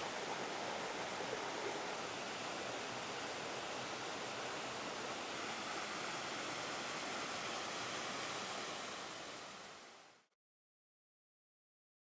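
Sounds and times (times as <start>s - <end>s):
small waterfall pouring: 0.0s - 10.3s.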